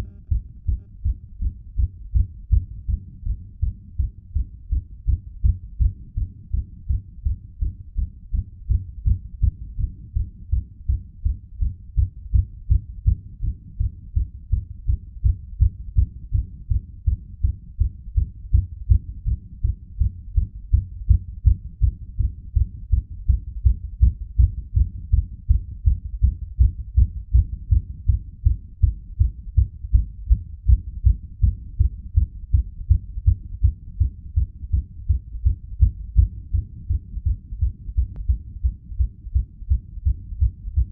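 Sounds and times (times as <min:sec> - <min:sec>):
fast heartbeat thumps: 0:00.0 - 0:40.9.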